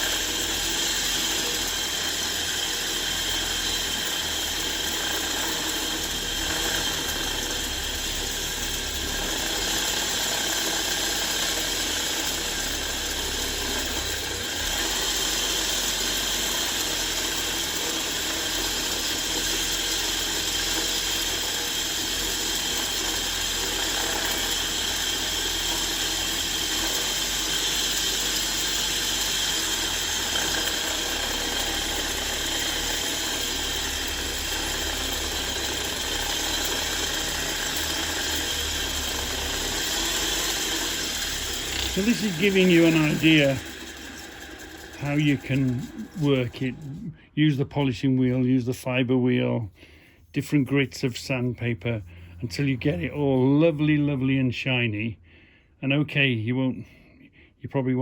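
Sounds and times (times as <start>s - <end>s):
bench grinder polishing metal: 0.0s - 48.4s, 50.3s - 54.2s.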